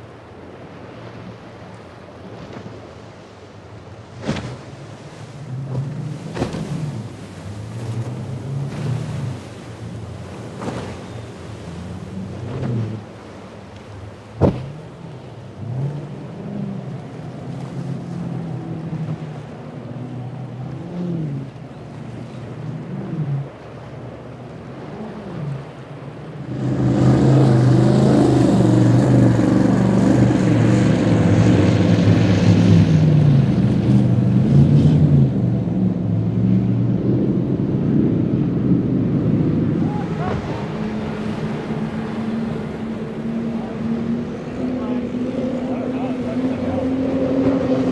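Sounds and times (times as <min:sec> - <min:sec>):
outboard engines running over waves: 0:00.0 - 0:47.9
powerboat engines at high speed: 0:00.0 - 0:47.9.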